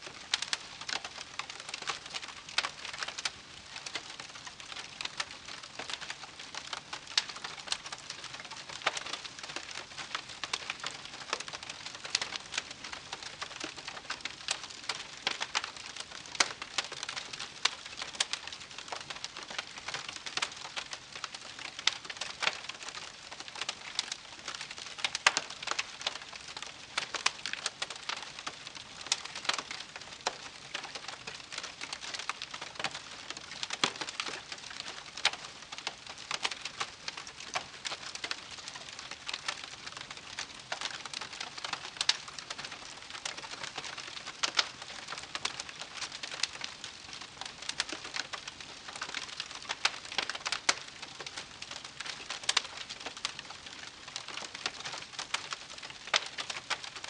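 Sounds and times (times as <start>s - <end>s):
campfire crackling: 0.1s - 57.0s.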